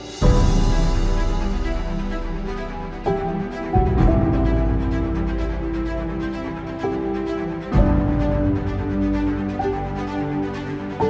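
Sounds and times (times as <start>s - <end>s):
ambient music with heavy bass: 0.0s - 11.0s.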